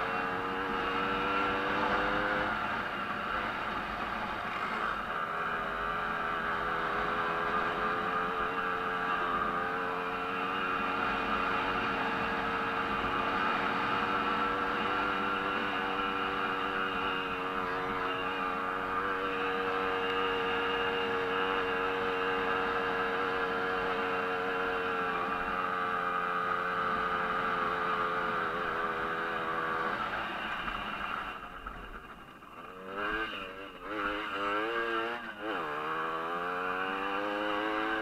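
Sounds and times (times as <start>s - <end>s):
moped engine at high revs: 0.0s - 38.0s.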